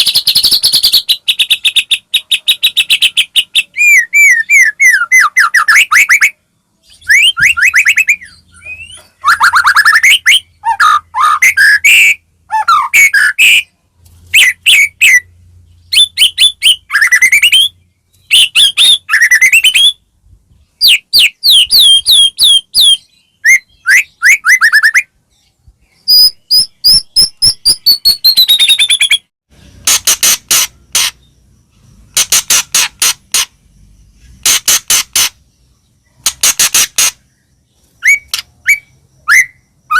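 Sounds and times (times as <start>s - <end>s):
songbird singing whistles: 0.0s - 29.3s, 36.1s - 39.9s.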